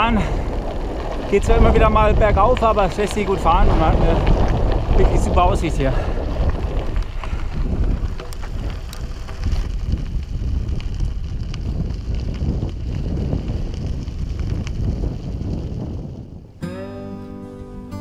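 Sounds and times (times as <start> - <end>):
wind rumbling on microphone: 0.0 - 16.7.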